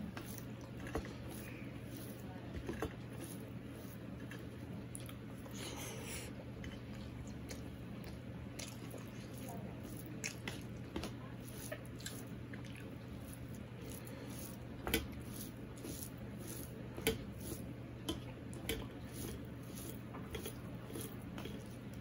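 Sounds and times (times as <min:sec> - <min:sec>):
fingers squishing mashed food: 0:00.0 - 0:22.0.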